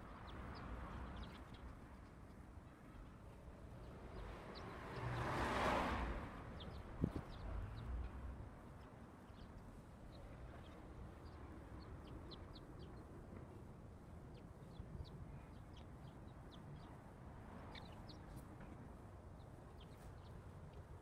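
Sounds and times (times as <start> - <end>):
low outdoor hum: 0.0 - 21.0
small birds chirping: 0.0 - 21.0.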